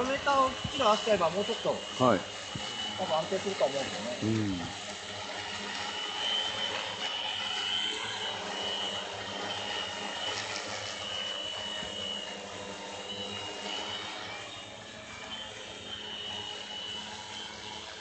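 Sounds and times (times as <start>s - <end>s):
drone motors buzzing hum: 0.0s - 18.0s.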